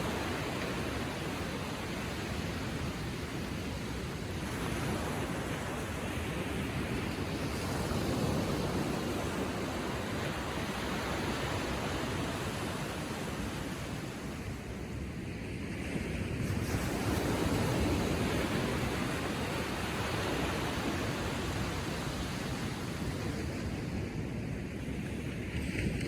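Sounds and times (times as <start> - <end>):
waves lapping on shore: 0.0 - 26.0.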